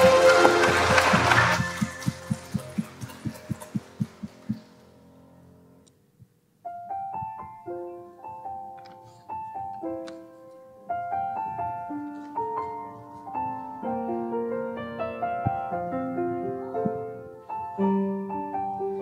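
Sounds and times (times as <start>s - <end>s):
piano chords and melody: 0.0s - 5.8s, 6.6s - 19.0s.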